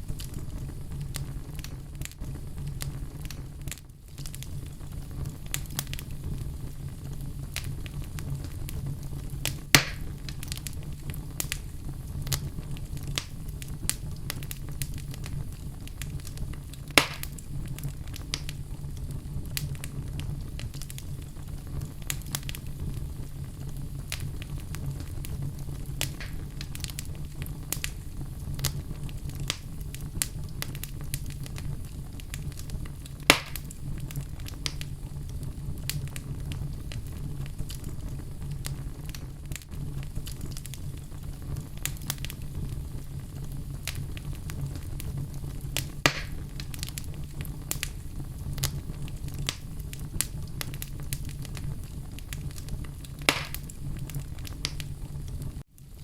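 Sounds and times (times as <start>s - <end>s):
loud fire pops: 0.0s - 56.0s
low rumble of flames: 0.0s - 56.0s
wood fire crackling: 0.0s - 56.0s.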